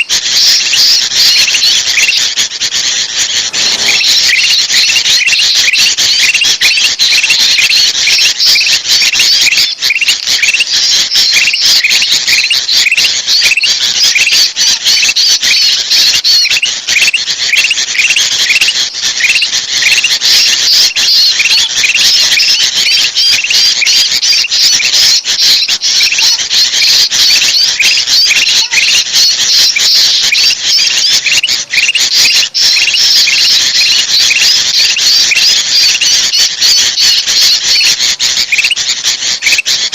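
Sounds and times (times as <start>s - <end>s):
bulbuls chattering in alarm: 0.0s - 39.9s.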